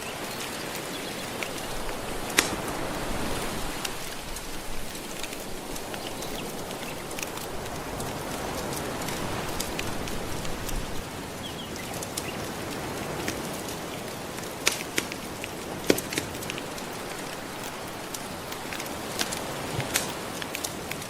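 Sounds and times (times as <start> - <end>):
ocean waves washing on shore: 0.0 - 21.0
wood fire crackling: 0.0 - 21.0.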